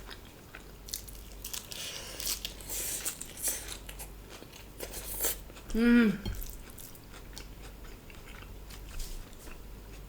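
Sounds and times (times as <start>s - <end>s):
person chewing and crunching food: 0.0s - 10.0s.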